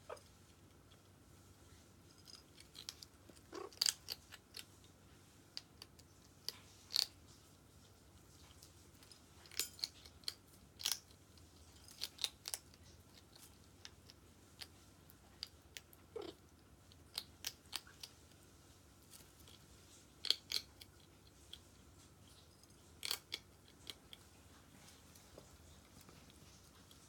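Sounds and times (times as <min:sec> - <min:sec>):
animal crunching dry kibble: 0:02.2 - 0:07.4, 0:08.3 - 0:27.0.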